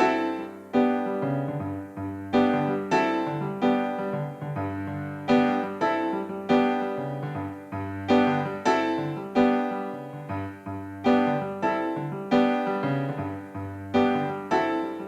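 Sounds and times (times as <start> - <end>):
electronic keyboard piano chords: 0.0 - 15.0.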